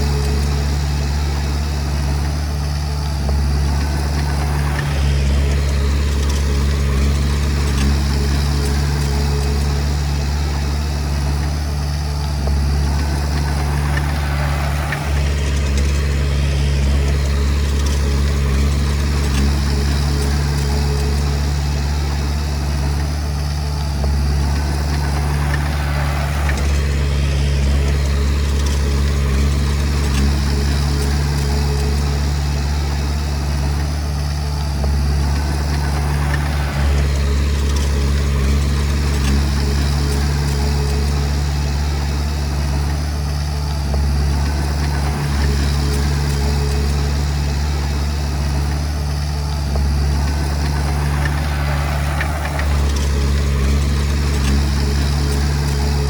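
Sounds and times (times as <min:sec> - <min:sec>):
bulldozer diesel engine droning: 0:00.0 - 0:56.0
machine clatter and grinding: 0:00.0 - 0:56.0.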